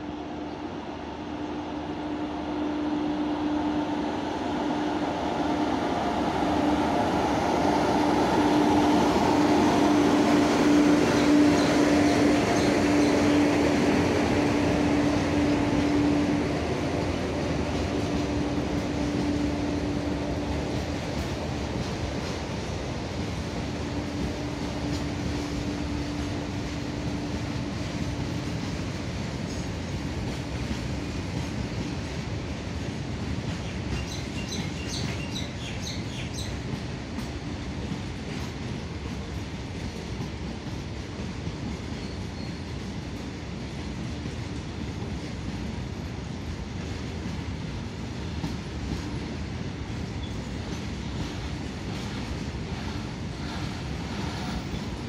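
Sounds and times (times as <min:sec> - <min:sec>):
train wheels rumbling and clattering: 0:05.1 - 0:55.0.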